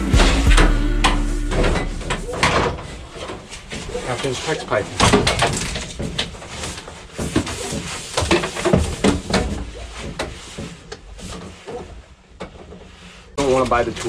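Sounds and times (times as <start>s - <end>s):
plumbing parts and tools clattering: 0.0s - 14.0s.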